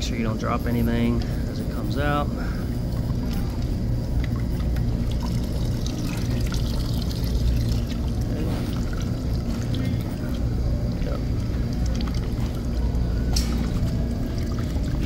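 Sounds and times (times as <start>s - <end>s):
low machinery hum: 0.0s - 15.0s
liquid trickling and dripping: 2.2s - 15.0s.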